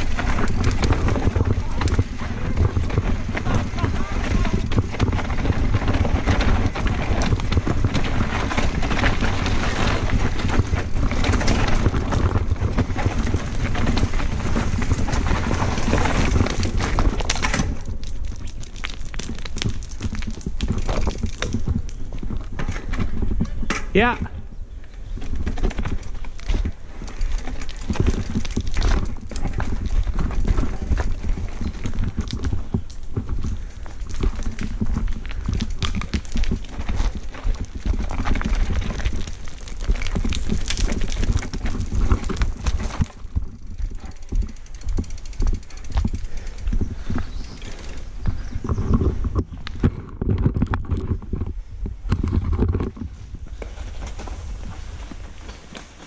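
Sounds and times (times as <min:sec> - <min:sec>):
wind on camera: 0:00.0 - 0:55.8
bike rattling: 0:00.0 - 0:56.0
bike tyres crunching over rocks: 0:00.0 - 0:56.0.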